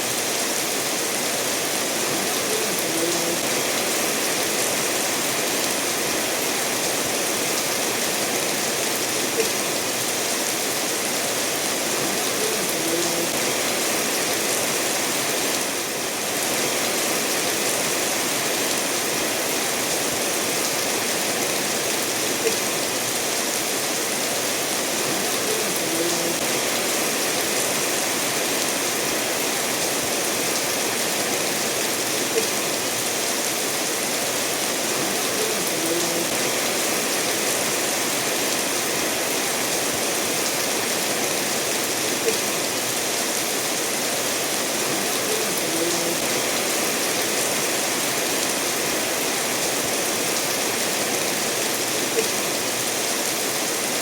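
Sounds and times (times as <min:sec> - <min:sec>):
rain falling: 0:00.0 - 0:54.0
stream running over stones: 0:00.0 - 0:54.0.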